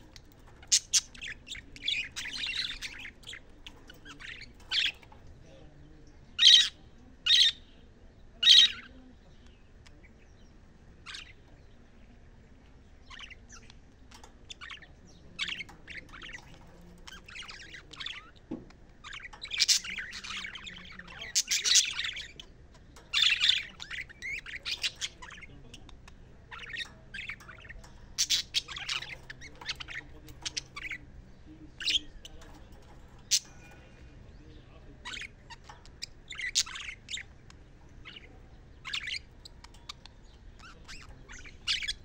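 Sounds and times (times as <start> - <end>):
budgerigars chirping: 0.0 - 5.4, 6.2 - 7.8, 8.4 - 9.0, 11.0 - 11.6, 12.9 - 42.0.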